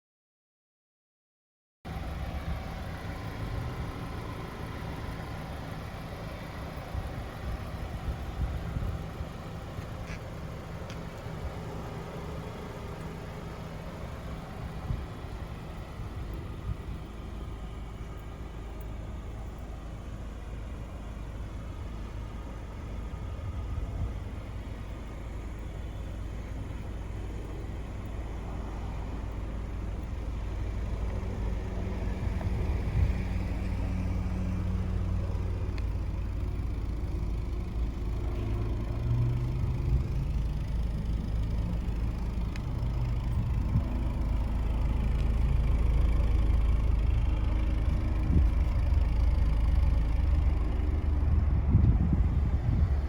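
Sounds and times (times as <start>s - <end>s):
car engine running: 1.9s - 53.0s
low road rumble: 1.9s - 53.0s.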